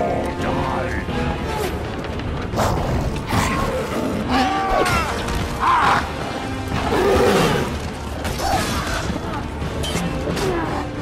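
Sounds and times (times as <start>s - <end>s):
battle music: 0.0s - 11.0s.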